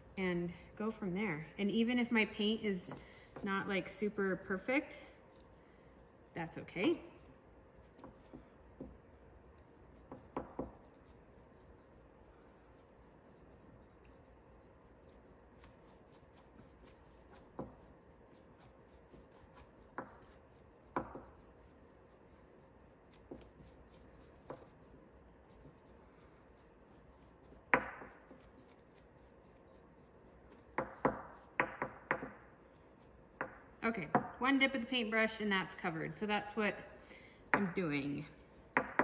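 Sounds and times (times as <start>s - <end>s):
paintbrush brushing on wood: 1.0s - 33.8s, 37.6s - 39.0s.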